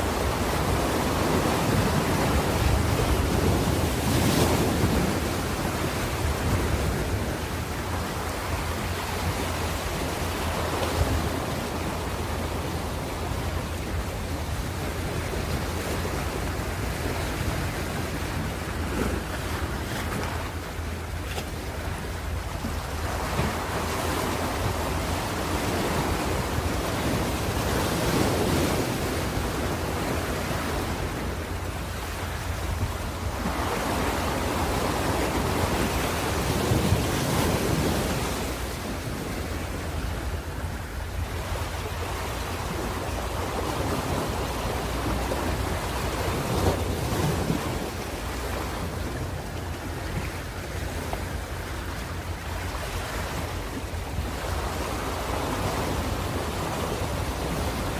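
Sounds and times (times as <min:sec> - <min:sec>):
low rumble of surf: 0:00.0 - 0:57.9
ocean waves breaking on shore: 0:00.0 - 0:57.9.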